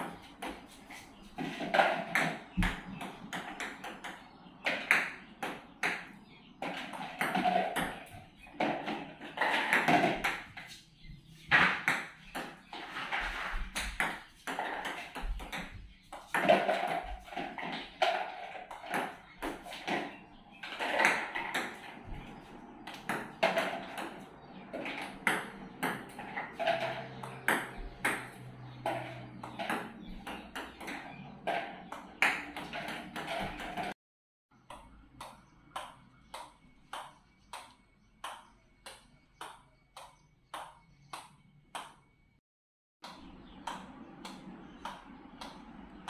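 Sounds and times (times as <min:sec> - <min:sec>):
table tennis balls clicking off paddles: 0:00.0 - 0:10.8, 0:11.5 - 0:34.0, 0:34.6 - 0:42.2, 0:43.0 - 0:46.0
ball bounced on rubber paddle: 0:01.4 - 0:10.8, 0:13.6 - 0:34.0, 0:34.6 - 0:42.0, 0:43.0 - 0:45.8.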